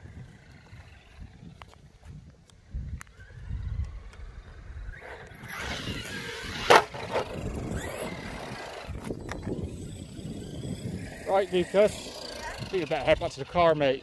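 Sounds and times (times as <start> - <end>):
rc truck motor and tyre noise: 0.0 - 14.0.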